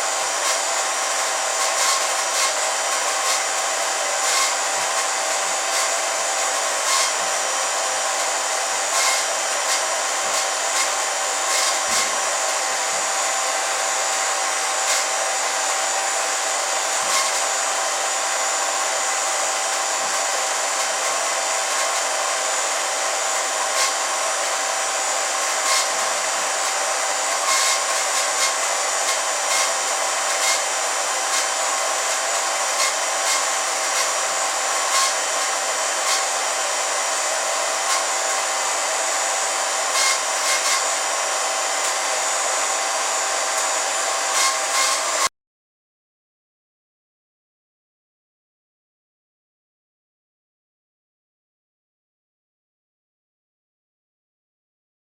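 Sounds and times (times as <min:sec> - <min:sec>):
film projector whirring: 0:00.0 - 0:45.3.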